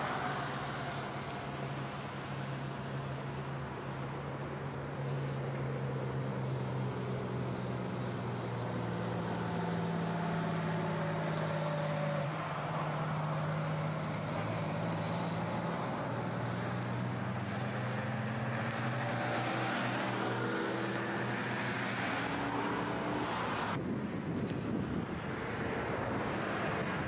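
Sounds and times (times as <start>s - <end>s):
road traffic hiss: 0.0s - 23.8s.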